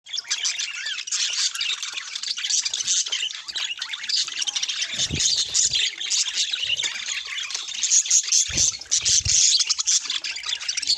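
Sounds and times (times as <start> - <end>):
budgerigars chattering: 0.1 - 10.9.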